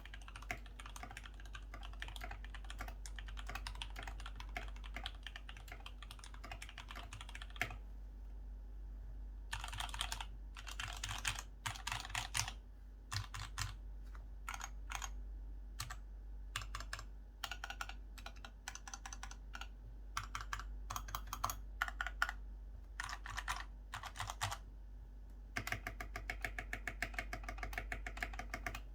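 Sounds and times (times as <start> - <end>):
typing on mechanical keyboard: 0.0 - 7.8, 9.5 - 13.8, 14.5 - 15.2, 15.8 - 22.4, 23.0 - 24.6, 25.6 - 28.9.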